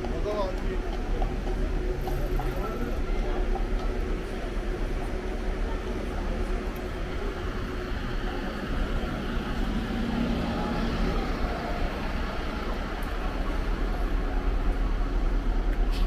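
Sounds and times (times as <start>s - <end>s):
bus engine running: 0.0s - 16.0s
street traffic rumble: 0.0s - 16.0s.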